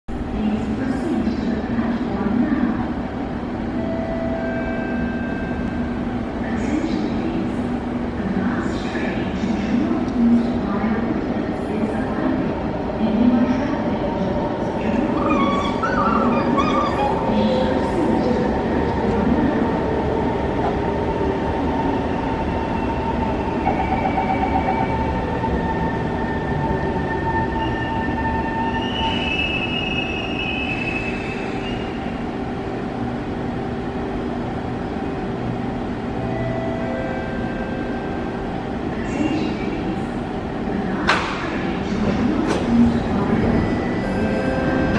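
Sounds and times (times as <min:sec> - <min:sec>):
metro train rumbling: 0:00.1 - 0:44.9.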